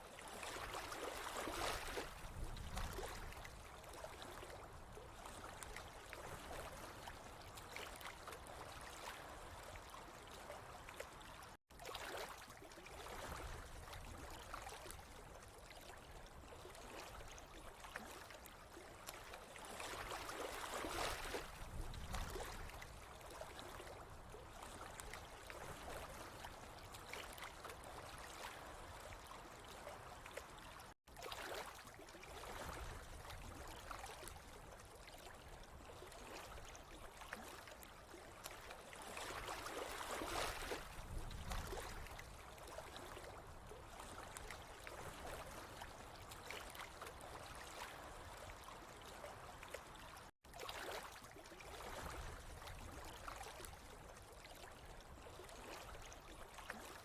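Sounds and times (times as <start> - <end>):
water trickling and gurgling: 0.1 - 57.0.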